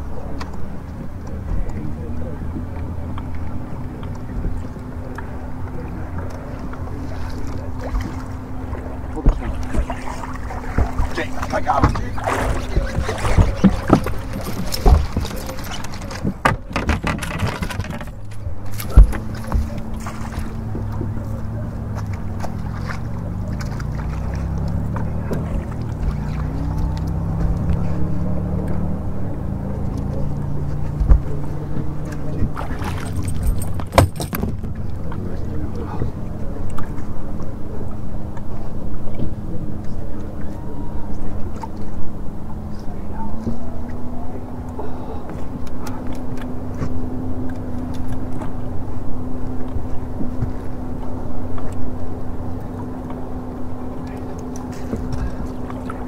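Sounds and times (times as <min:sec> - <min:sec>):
boat motor running: 0:00.0 - 0:56.0
steady low hum: 0:00.0 - 0:56.0
wind rumbling on microphone: 0:00.0 - 0:56.0.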